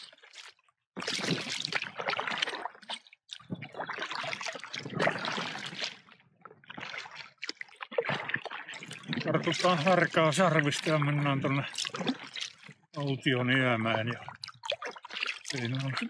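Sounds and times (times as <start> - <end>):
paddle splashing in water: 0.0 - 12.9, 14.1 - 16.0
water trickling off paddle: 0.0 - 16.0.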